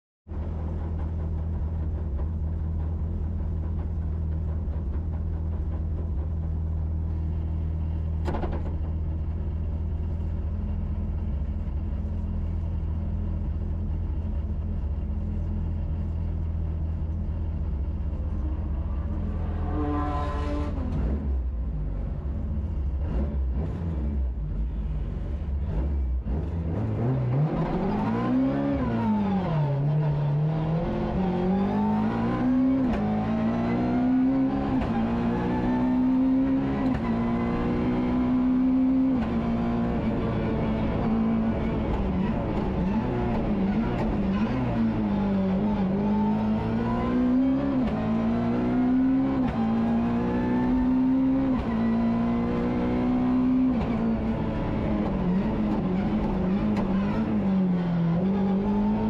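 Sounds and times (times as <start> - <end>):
car engine idling and revving: 0.3 - 59.0.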